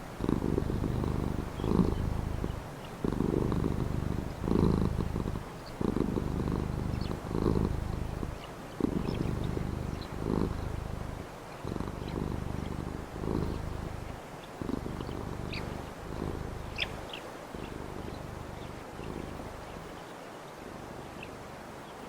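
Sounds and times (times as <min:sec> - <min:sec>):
cat purring: 0:00.0 - 0:20.1
faint bird chirps: 0:00.4 - 0:20.4.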